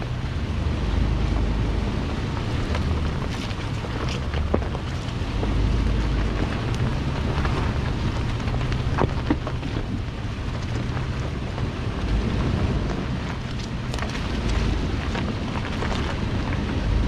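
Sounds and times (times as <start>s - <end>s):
vehicle engine drone: 0.0s - 17.0s
wind noise: 0.0s - 17.0s
vehicle knocking over bumps: 1.3s - 17.0s.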